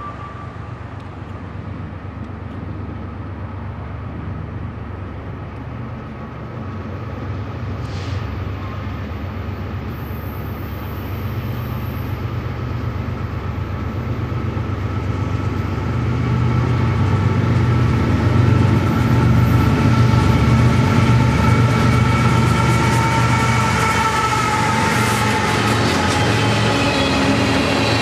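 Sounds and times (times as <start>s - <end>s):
diesel train engine rumble: 0.0s - 28.0s.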